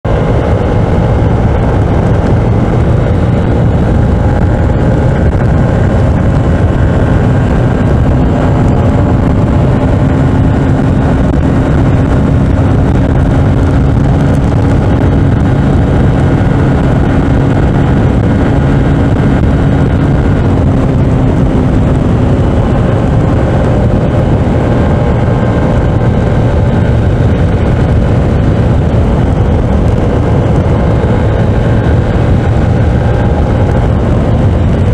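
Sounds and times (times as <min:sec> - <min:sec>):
motorcycle engine running flat out: 0:00.0 - 0:34.9
wind rush: 0:00.0 - 0:34.9.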